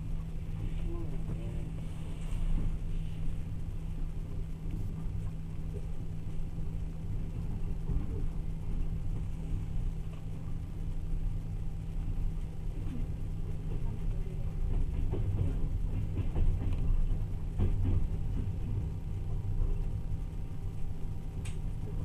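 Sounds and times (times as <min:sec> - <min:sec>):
low hum: 0:00.0 - 0:22.0
train rumbling inside carriage: 0:00.0 - 0:22.0.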